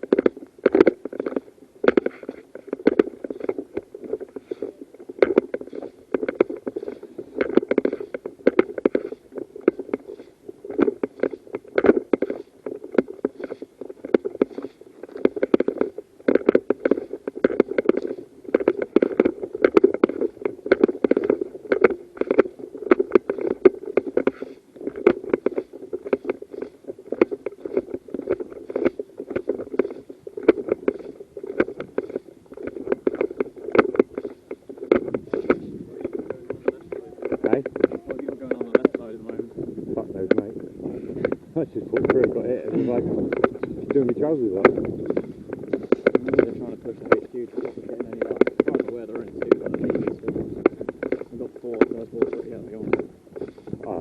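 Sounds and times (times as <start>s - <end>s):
clothing rustling on microphone: 0.0s - 54.0s
low steady rumble: 0.0s - 54.0s.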